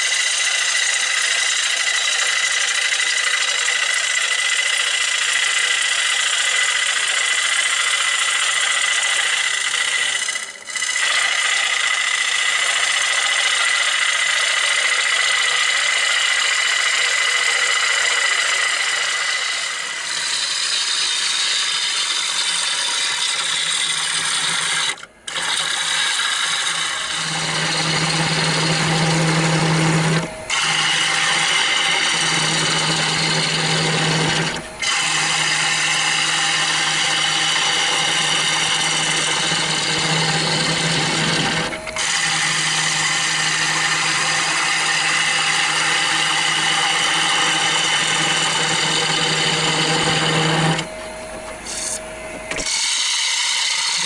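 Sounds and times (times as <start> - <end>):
gouge hissing cutting wood: 0.0 - 51.0, 51.6 - 54.0
lathe humming: 0.0 - 54.0.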